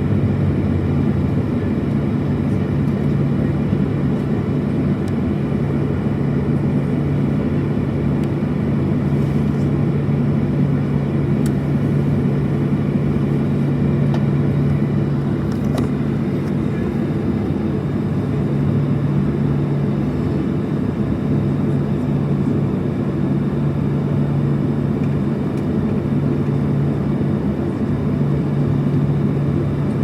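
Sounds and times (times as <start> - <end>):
jet engines humming: 0.0 - 30.0.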